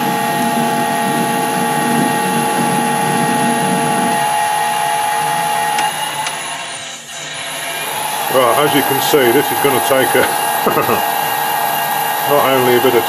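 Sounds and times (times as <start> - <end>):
lathe gear whine: 0.0 - 13.0.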